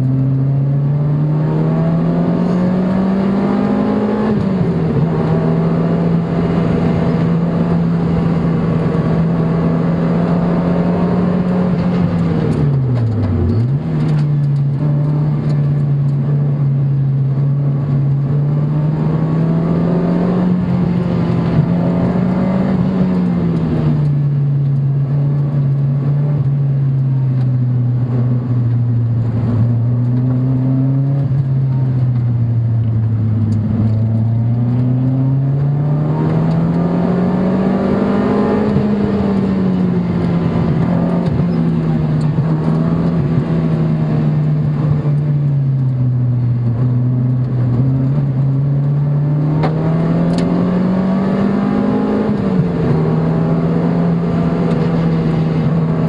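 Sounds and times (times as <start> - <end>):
road and wind noise: 0.0 - 56.0
sports car engine: 0.0 - 56.0.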